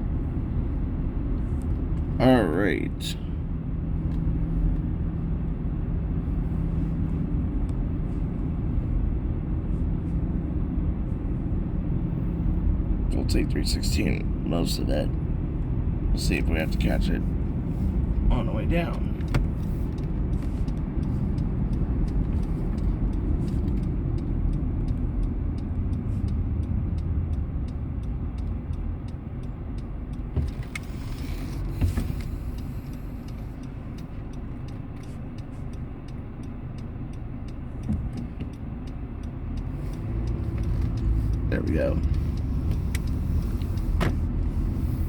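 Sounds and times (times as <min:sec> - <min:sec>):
car engine and tyres rumbling: 0:00.0 - 0:45.0.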